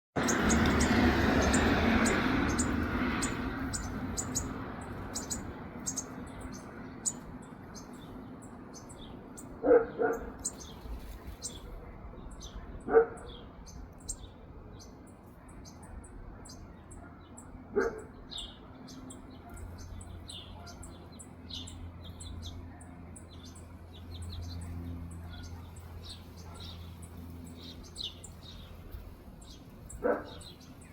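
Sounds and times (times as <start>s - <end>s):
baby birds chirping: 0.2s - 11.7s, 12.3s - 30.9s.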